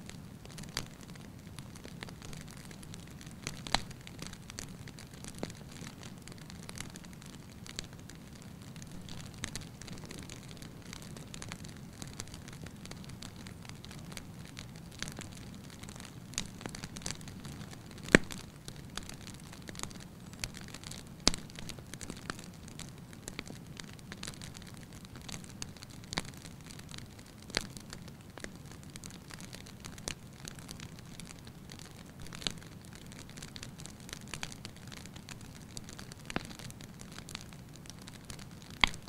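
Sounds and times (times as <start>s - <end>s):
fire crackles and pops: 0.0s - 39.0s
fire low rumble: 0.0s - 39.0s.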